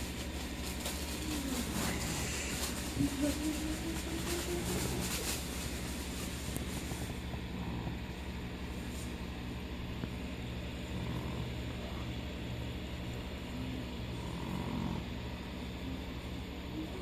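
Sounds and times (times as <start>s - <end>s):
aquarium air pump humming: 0.0s - 17.0s.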